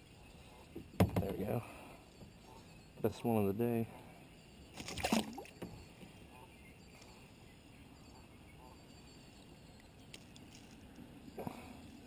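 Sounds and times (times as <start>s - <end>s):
distant bird calls: 0.0s - 12.0s.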